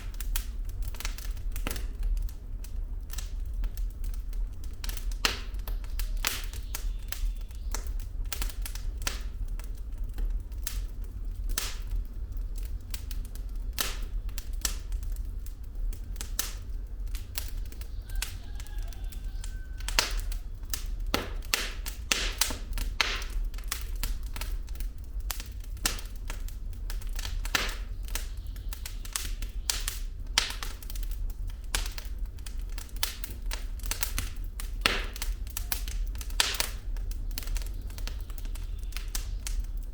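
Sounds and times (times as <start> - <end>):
fire low rumble: 0.0 - 39.9
logs crackling and popping: 0.0 - 39.9.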